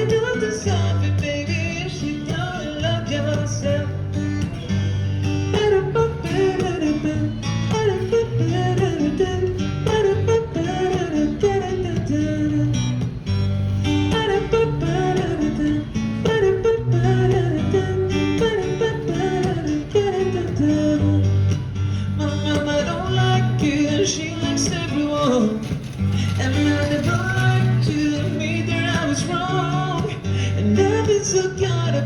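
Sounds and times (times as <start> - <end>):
guitar melody: 0.0 - 32.0
held bass notes: 0.0 - 32.0.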